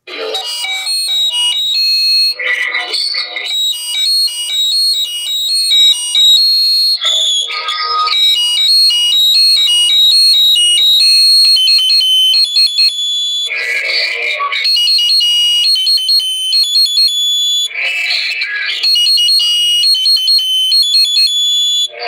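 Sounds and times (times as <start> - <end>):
tinny melody from small speaker: 0.0 - 22.0.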